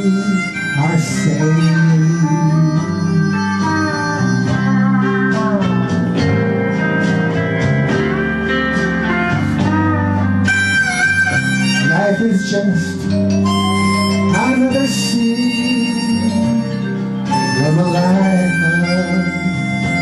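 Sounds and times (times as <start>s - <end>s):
bass line: 0.0s - 20.0s
slide guitar gliding notes: 0.0s - 20.0s.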